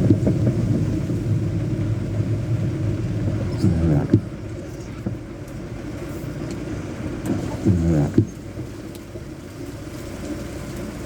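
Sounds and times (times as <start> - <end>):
heavy rain pouring: 0.0 - 11.0
vehicle engine: 0.0 - 11.0.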